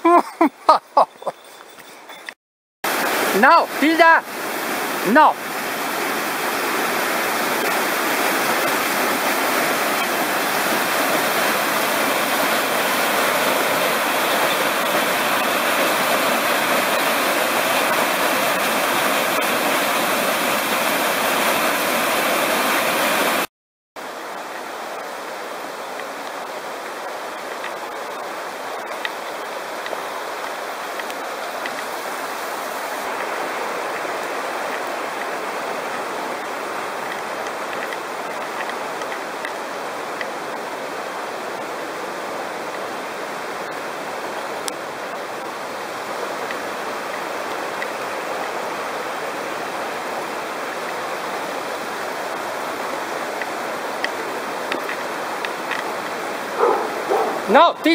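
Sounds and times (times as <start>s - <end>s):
waterfall pouring over rocks: 2.9s - 57.9s.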